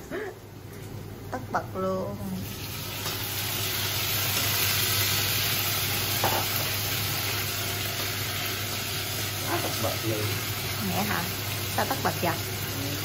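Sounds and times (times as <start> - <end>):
food sizzling in a pan: 2.2 - 13.0.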